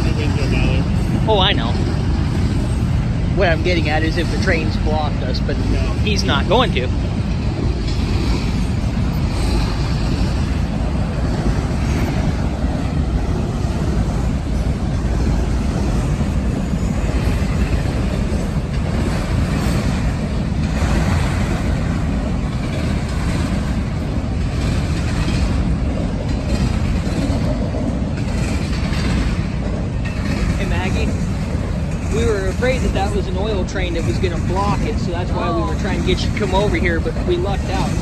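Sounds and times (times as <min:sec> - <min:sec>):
freight train rumbling on rails: 0:00.0 - 0:38.0.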